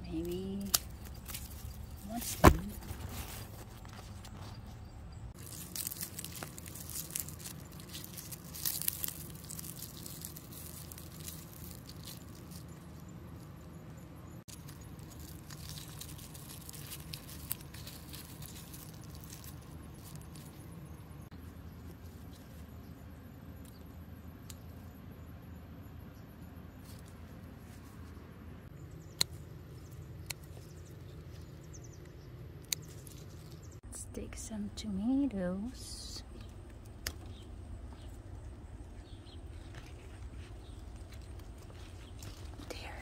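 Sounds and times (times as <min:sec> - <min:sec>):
stalks and leaves rustling: 0:00.0 - 0:25.0, 0:26.6 - 0:43.0
steady low hum: 0:00.0 - 0:43.0.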